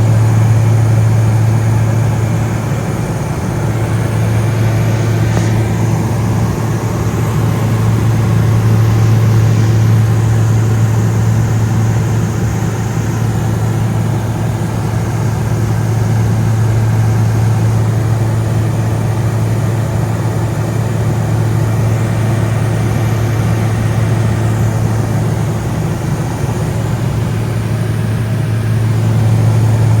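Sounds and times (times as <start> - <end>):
light aircraft engine drone in cabin: 0.0 - 30.0.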